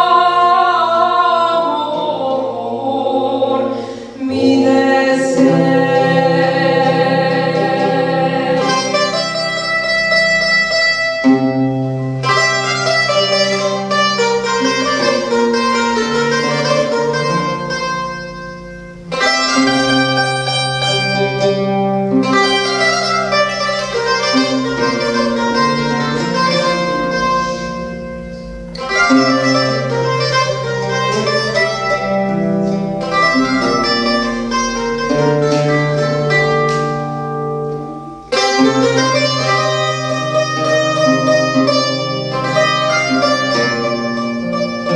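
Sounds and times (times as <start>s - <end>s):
folk music on mandolins: 0.0s - 44.9s.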